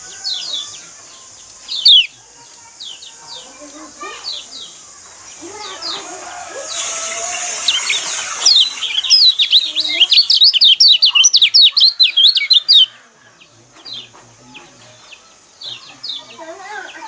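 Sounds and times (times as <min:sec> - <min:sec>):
fast chattering bird song: 0:00.0 - 0:17.0
many birds calling: 0:00.0 - 0:17.0.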